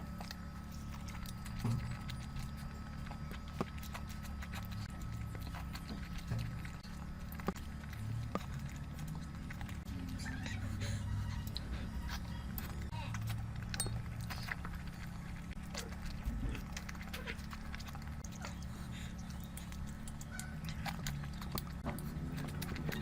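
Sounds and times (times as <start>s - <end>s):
low hum: 0.0s - 23.0s
wet chewing and lip-smacking: 0.0s - 23.0s.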